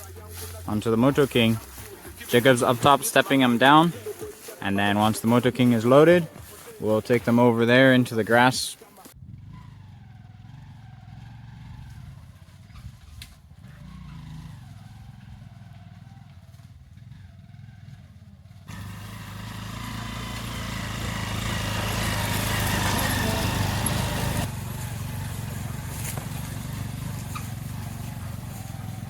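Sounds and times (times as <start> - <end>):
small vehicle engine humming: 0.0 - 29.0.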